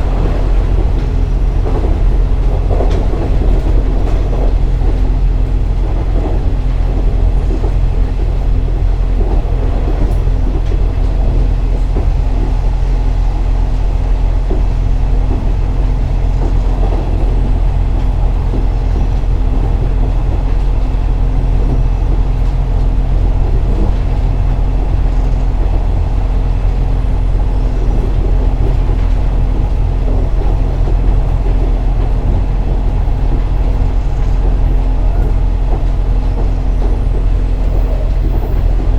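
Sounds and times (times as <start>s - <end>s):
diesel railcar engine droning: 0.0s - 38.9s
wheels rumbling on rail: 0.0s - 38.9s.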